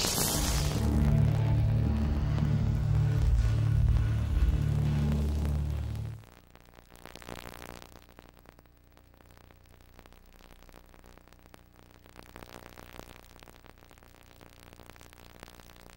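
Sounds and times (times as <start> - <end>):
faint steady hiss: 0.0 - 15.9.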